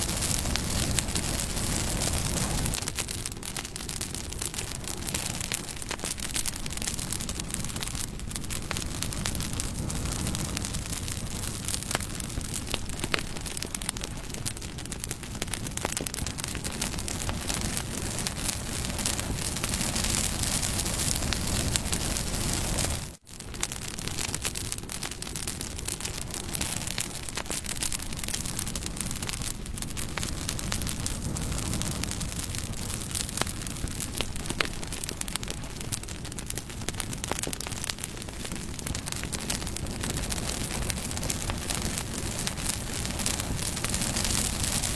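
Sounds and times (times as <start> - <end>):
burning wood crackling and popping: 0.0 - 44.9
campfire flames rushing: 0.0 - 44.9.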